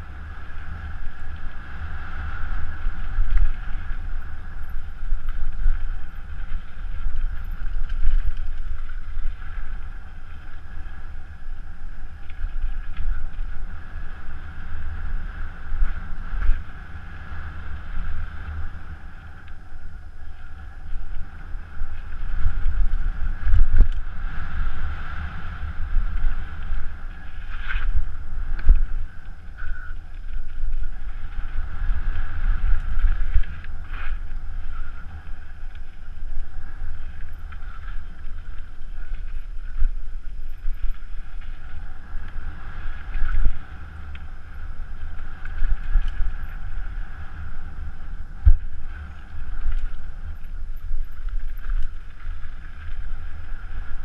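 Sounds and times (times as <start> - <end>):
tyres rumbling on dirt trail: 0.0 - 54.0
wind buffeting microphone: 0.0 - 54.0.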